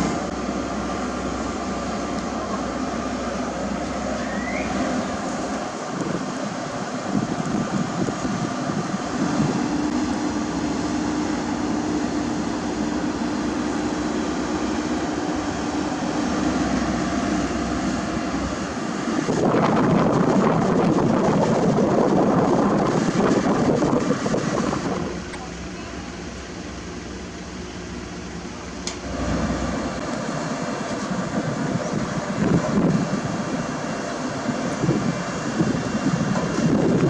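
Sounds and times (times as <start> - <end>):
diesel paving machinery running: 0.0 - 37.0.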